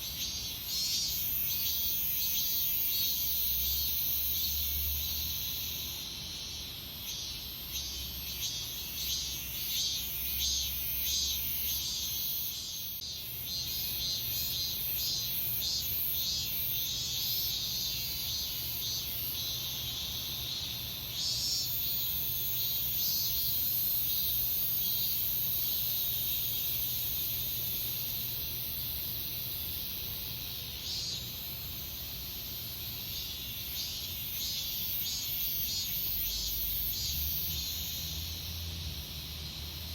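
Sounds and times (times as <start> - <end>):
cicadas continuous buzz: 0.0 - 39.9
cicadas pulsing calls: 0.0 - 39.9.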